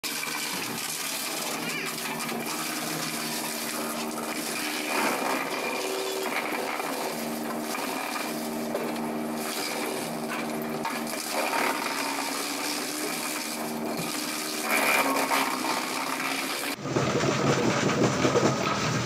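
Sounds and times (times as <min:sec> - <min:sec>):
wood chipper running: 0:00.0 - 0:19.0.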